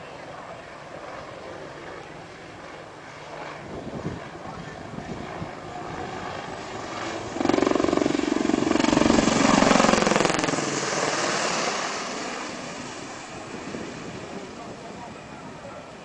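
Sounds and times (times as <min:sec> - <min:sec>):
helicopter rotor chop and engine: 0:00.0 - 0:16.0.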